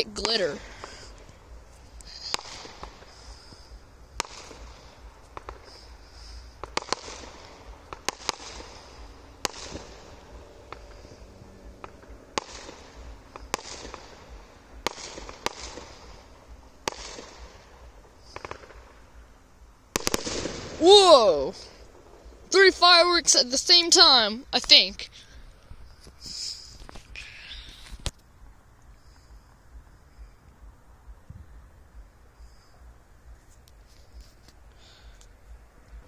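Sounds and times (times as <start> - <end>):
fireworks banging: 0.0 - 30.4.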